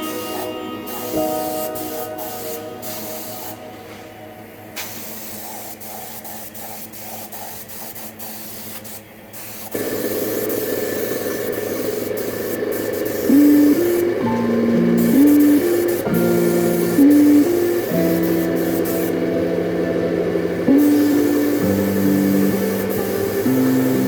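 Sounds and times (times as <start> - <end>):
paint sprayer hissing: 0.0 - 3.8, 4.8 - 24.0.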